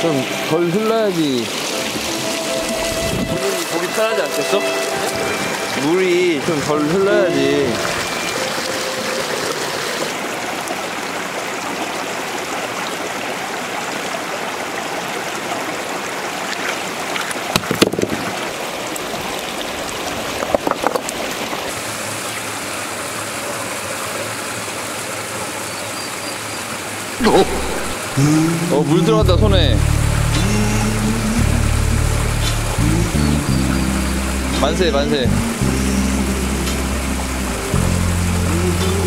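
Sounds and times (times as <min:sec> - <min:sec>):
stream running over stones: 0:00.0 - 0:39.0.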